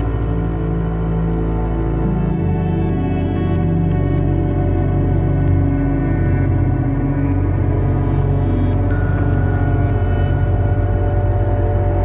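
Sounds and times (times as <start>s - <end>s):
ambient music with low drone: 0.0s - 12.0s.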